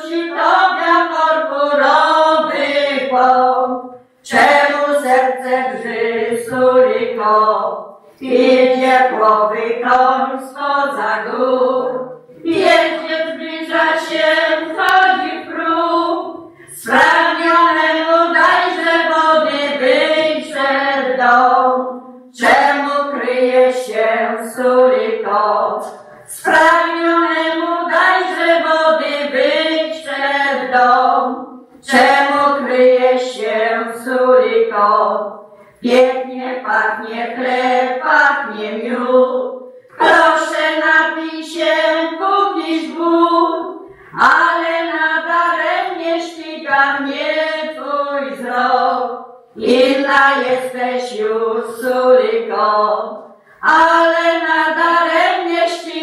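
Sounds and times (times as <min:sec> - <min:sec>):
women singing unaccompanied: 0:00.0 - 0:56.0.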